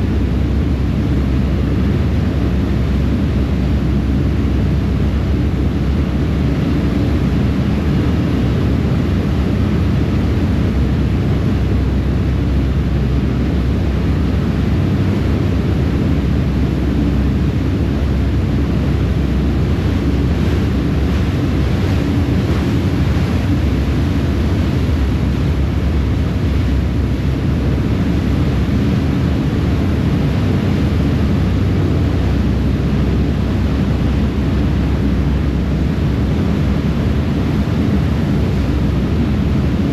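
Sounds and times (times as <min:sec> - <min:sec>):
rush of churning wake: 0:00.0 - 0:39.9
ship engines rumbling: 0:00.0 - 0:39.9
wind on microphone: 0:00.0 - 0:39.9.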